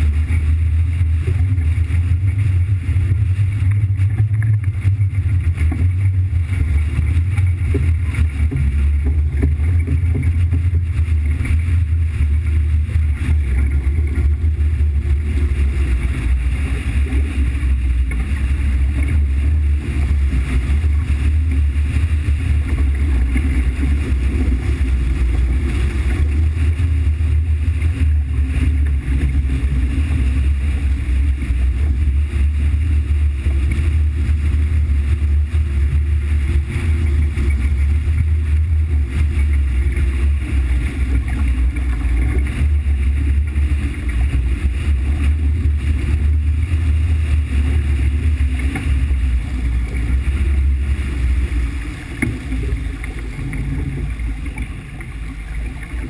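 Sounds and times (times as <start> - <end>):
vehicle low rumble: 0.0 - 56.0
wind on microphone: 0.0 - 56.0.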